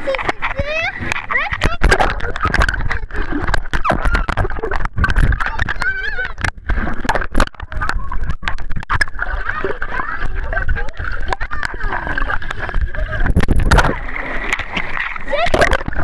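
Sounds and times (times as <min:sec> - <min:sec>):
muffled children's voices: 0:00.0 - 0:13.4, 0:15.1 - 0:16.0
underwater churning water and bubbles: 0:00.0 - 0:16.0.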